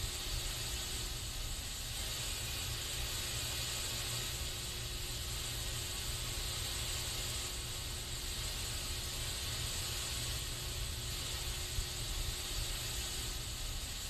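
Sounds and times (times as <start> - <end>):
aerosol spray can hissing: 0.0 - 14.0.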